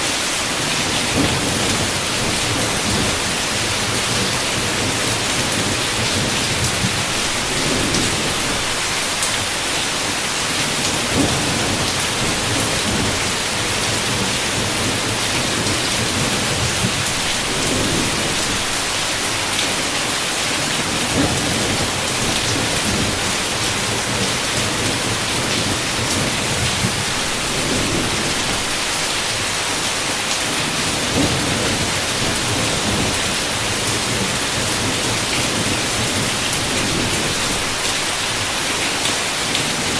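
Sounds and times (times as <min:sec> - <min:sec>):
heavy rain hissing: 0:00.0 - 0:39.9
low thunder rumbling: 0:01.0 - 0:09.5, 0:10.9 - 0:19.6, 0:20.8 - 0:29.5, 0:30.6 - 0:38.1.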